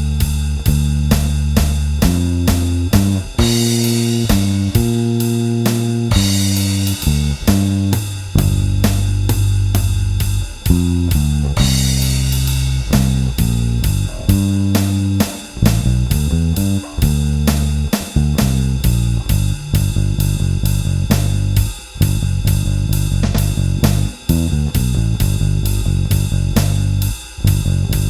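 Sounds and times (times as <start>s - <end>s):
drum kit beat with cymbals: 0.0s - 28.0s
electric bass line: 0.0s - 28.0s.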